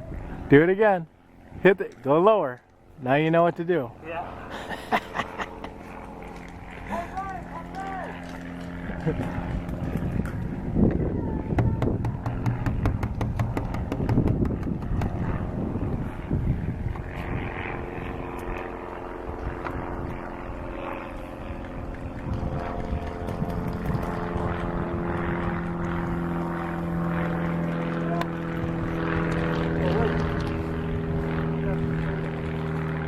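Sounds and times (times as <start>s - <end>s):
propeller aircraft engine drone: 0.0s - 33.0s.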